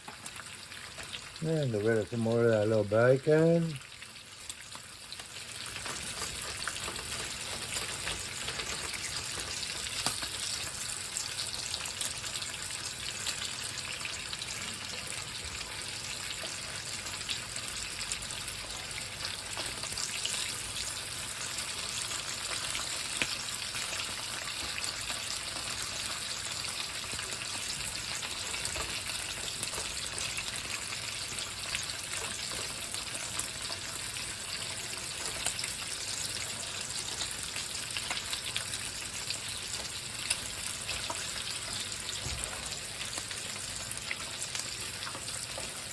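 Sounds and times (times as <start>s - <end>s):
bacon sizzling in a frying pan: 0.0s - 45.9s.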